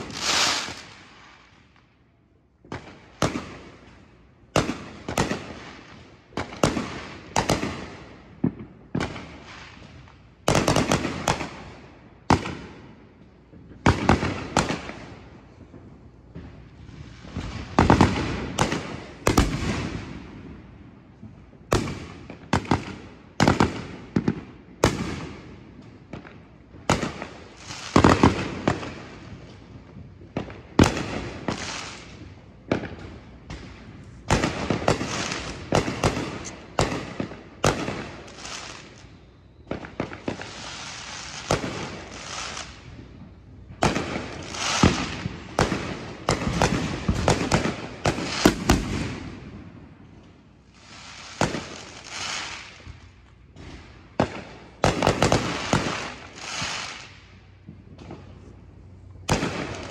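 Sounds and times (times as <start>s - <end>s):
fireworks bangs echoing: 0.0s - 1.6s, 2.6s - 58.5s, 59.1s - 59.9s
fireworks crackling: 0.0s - 59.9s.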